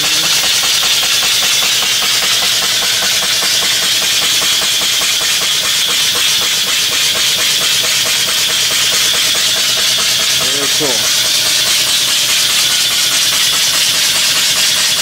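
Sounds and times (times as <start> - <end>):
fast even clatter of moving parts: 0.0 - 15.0
model steam engine hissing: 0.0 - 15.0.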